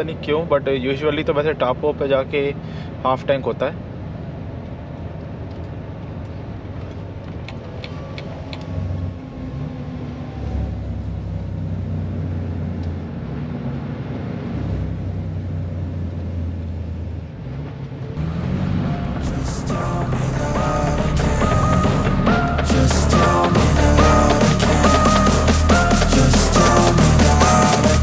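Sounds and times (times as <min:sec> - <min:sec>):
road noise: 0:00.0 - 0:28.0
truck diesel engine: 0:00.0 - 0:28.0.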